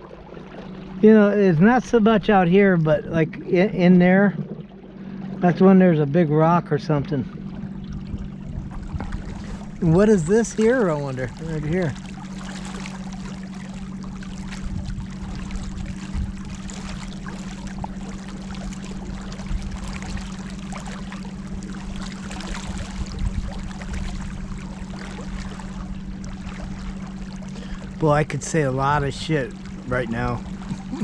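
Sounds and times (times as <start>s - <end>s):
steady low hum: 0.0s - 31.0s
water splashing along boat hull: 0.0s - 31.0s.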